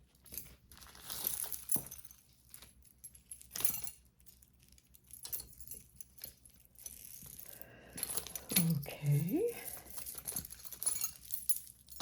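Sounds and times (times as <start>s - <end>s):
metal chains clinking: 0.2s - 12.0s.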